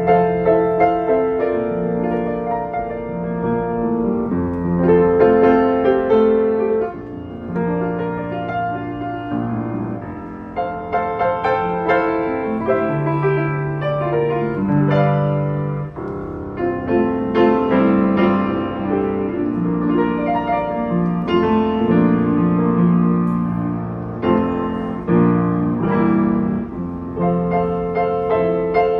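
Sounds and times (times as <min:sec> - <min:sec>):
upright piano playing chords: 0:00.0 - 0:28.9.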